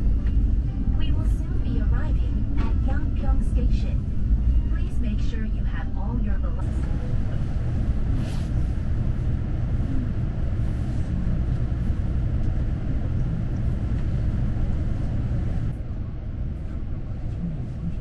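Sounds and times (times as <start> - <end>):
train rumble inside cabin: 0.0 - 18.0.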